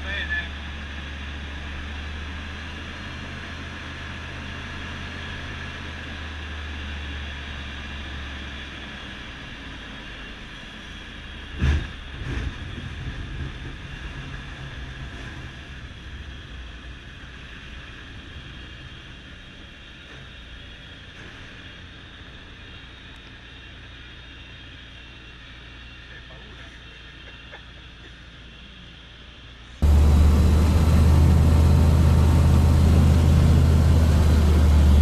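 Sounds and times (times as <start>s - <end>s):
aircraft engine and propeller droning: 0.0s - 35.0s.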